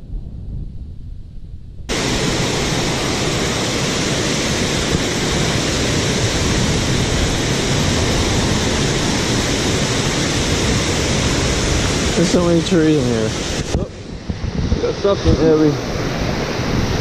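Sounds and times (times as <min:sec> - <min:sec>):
low rumble: 0:00.0 - 0:17.0
water rushing over dam spillway: 0:01.9 - 0:17.0.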